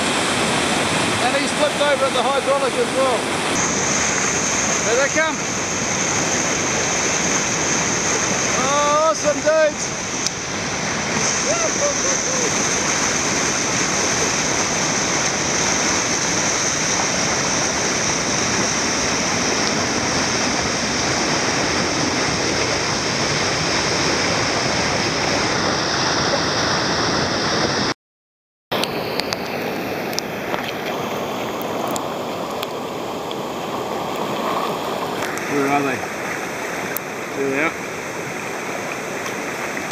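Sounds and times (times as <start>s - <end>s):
whitewater rapids rushing: 0.0s - 27.9s, 28.8s - 39.9s.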